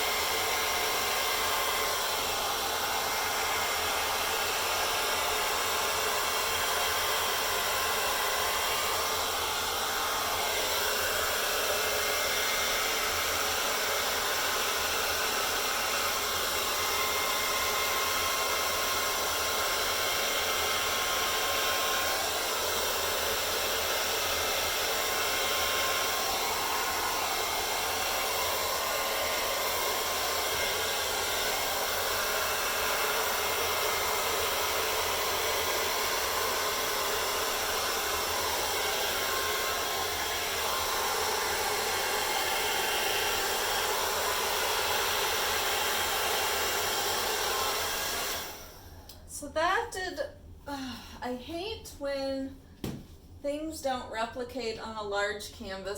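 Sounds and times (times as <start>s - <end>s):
hair dryer blowing: 0.0s - 50.1s.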